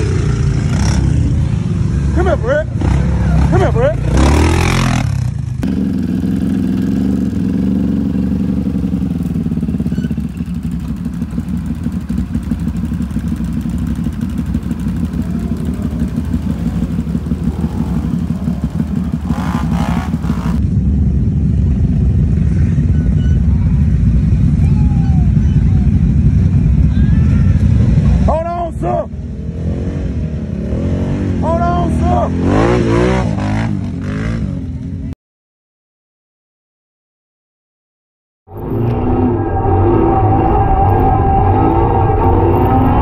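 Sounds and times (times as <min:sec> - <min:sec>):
quad bike engines revving: 0:00.0 - 0:35.1, 0:38.5 - 0:43.0.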